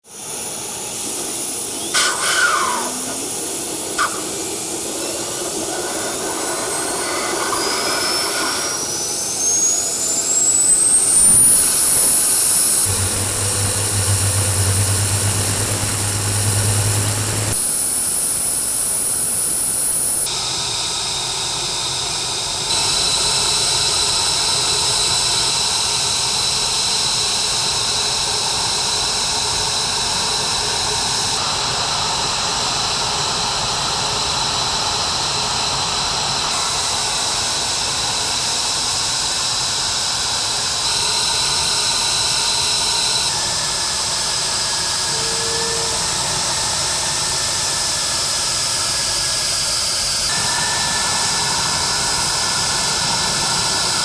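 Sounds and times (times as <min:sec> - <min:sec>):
jet engines rushing and whining: 0:00.0 - 0:54.0.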